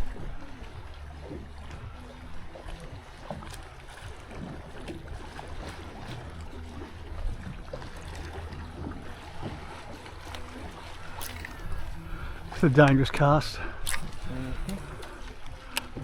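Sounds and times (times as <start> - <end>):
steady low hum: 0.0 - 16.0
water slapping boat hull: 0.0 - 16.0.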